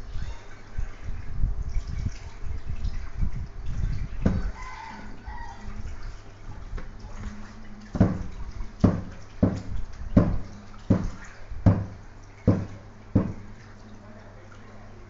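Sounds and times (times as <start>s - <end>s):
rhythmic water splashes: 0.0s - 15.0s
steady low hum: 0.0s - 15.0s.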